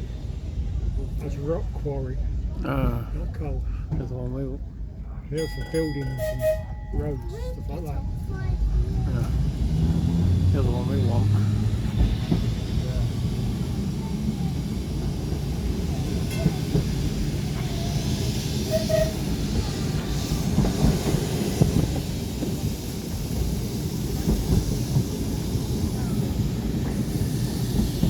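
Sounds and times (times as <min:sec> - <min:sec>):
tram wheels rumbling: 0:00.0 - 0:28.0.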